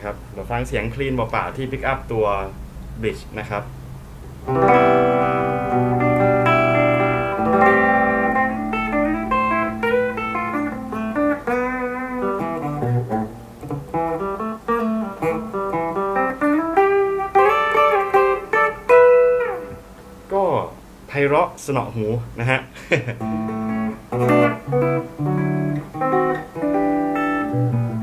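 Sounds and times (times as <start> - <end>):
clean electric guitar: 0.0 - 20.3, 23.0 - 28.0.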